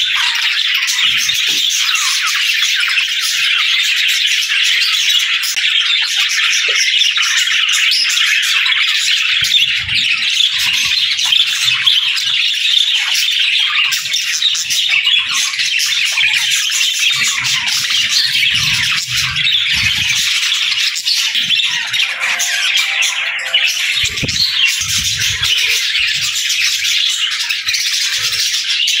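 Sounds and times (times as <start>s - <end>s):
budgerigars chattering: 0.0s - 29.0s.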